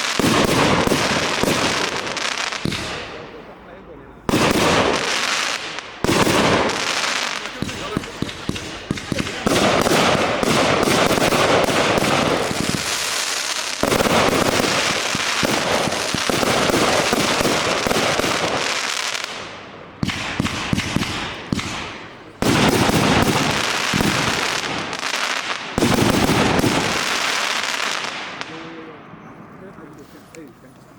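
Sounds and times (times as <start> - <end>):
crackling firework bursts: 0.0 - 3.5, 4.2 - 28.8
firework cake firing: 0.0 - 3.5, 4.2 - 28.8.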